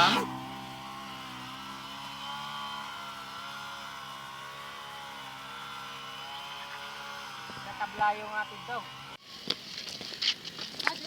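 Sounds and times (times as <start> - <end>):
engine running steadily: 0.0 - 9.6.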